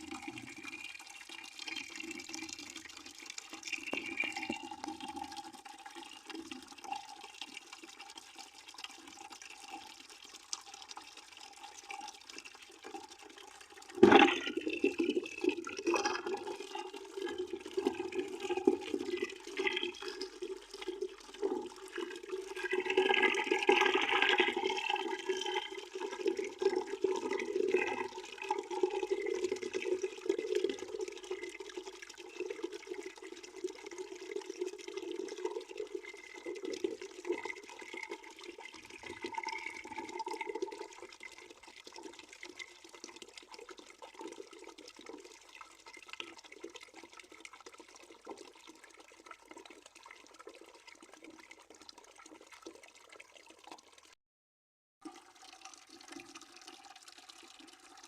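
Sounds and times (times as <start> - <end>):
water running into a bucket: 0.0 - 54.2, 55.0 - 58.0.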